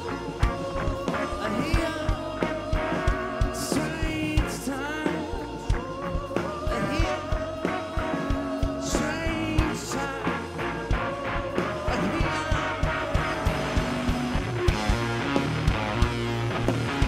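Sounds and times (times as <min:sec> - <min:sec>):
person singing: 0:00.0 - 0:14.6
electric guitars and bass: 0:00.0 - 0:17.0.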